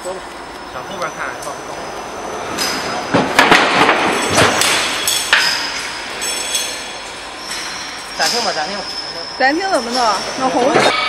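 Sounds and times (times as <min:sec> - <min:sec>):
machine high whine: 0:00.0 - 0:11.0.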